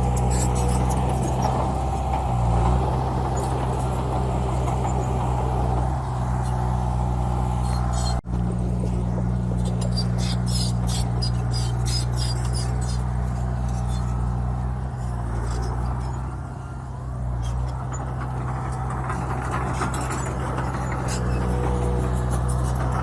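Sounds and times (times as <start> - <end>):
bulldozer diesel engine: 0.0 - 23.0.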